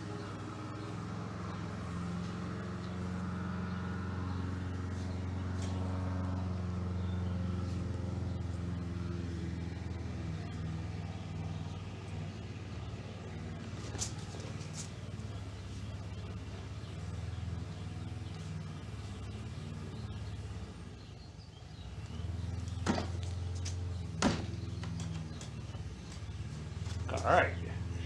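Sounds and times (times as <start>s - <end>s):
low engine-like drone: 0.0s - 28.0s.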